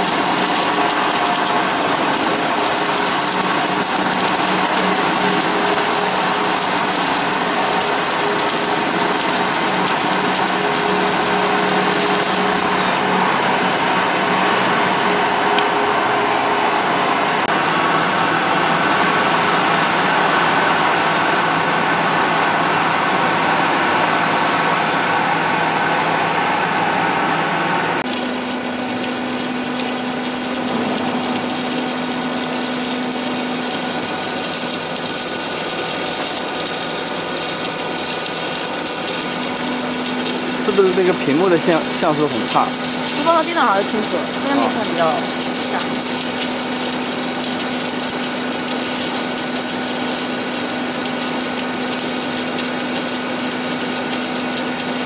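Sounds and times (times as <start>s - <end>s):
welding hiss and machine hum: 0.0s - 55.0s.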